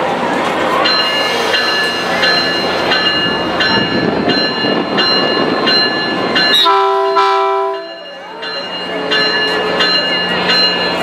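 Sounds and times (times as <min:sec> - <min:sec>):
locomotive bell ringing: 0:00.7 - 0:11.0.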